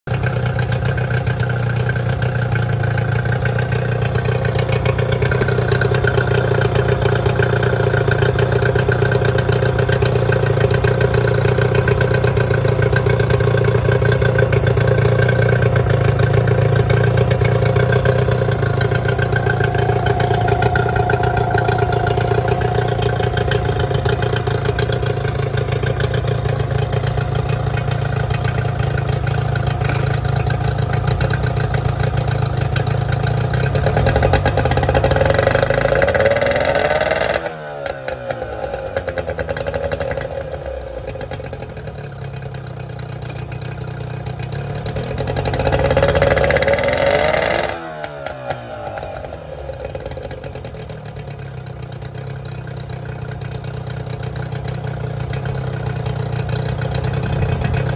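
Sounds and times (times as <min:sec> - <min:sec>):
outboard motor running: 0:00.1 - 0:57.9.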